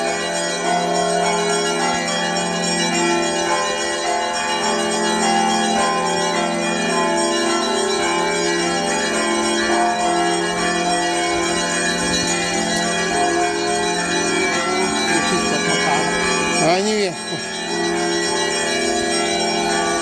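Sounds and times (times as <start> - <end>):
monastery bells ringing: 0.0 - 20.0.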